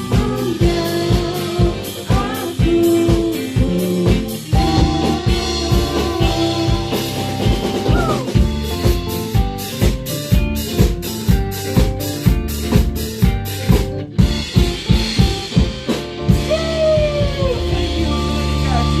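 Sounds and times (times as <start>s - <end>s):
drum kit beat: 0.0s - 19.0s
instrumental band playing: 0.0s - 19.0s.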